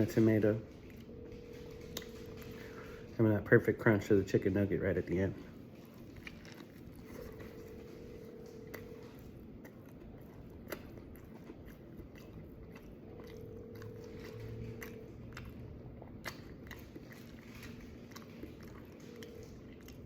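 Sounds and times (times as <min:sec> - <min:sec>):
crunchy sandwich chewing: 0:00.0 - 0:20.0.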